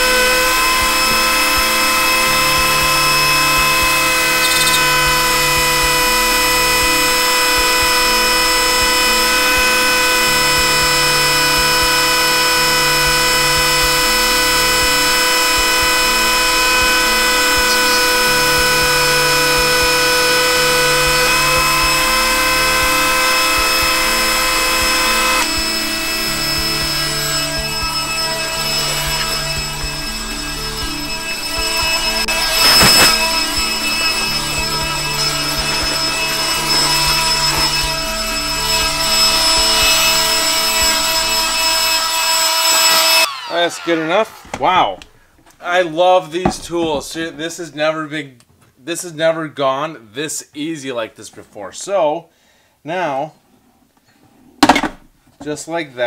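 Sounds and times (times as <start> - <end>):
rotary tool whine: 0.0 - 45.7.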